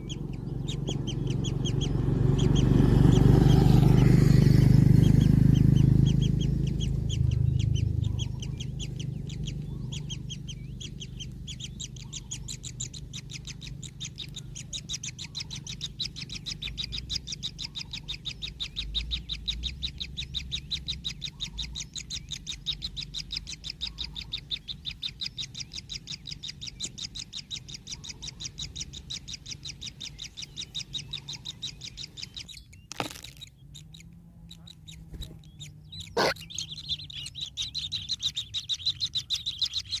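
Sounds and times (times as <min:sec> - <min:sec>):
bird chick chirping: 0:00.0 - 0:40.0.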